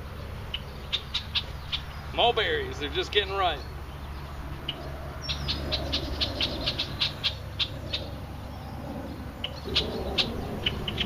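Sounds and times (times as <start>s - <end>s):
birds scolding calls: 0.0s - 11.0s.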